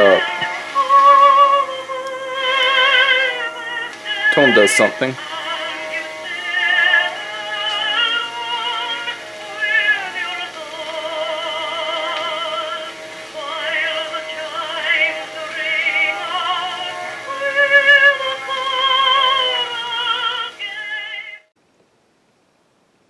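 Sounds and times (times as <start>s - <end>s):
singing from a record player: 0.0s - 21.6s.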